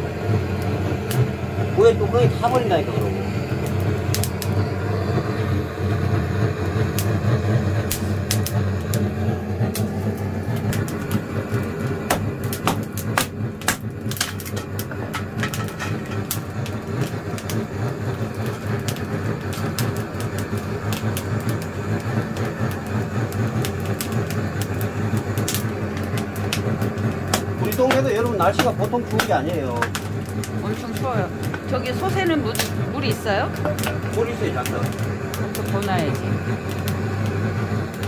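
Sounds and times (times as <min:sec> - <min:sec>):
fire low rumble: 0:00.0 - 0:38.0
wood fire crackling: 0:00.0 - 0:38.0.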